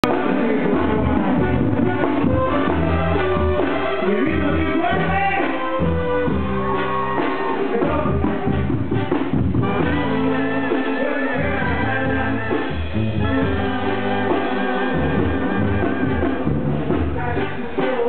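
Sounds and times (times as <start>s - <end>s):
latin band music with brass: 0.0s - 18.0s.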